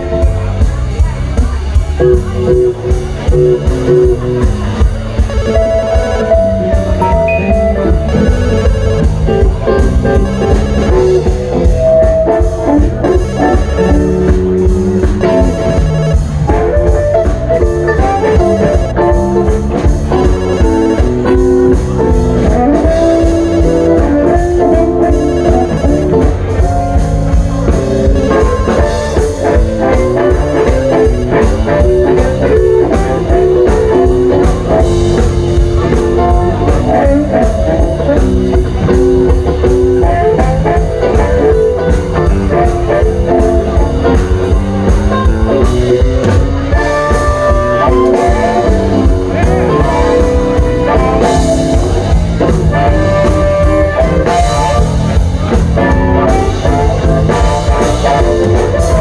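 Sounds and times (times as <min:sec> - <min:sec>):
blues guitar with bending notes: 0:00.0 - 0:59.0
drum kit beat: 0:00.0 - 0:59.0.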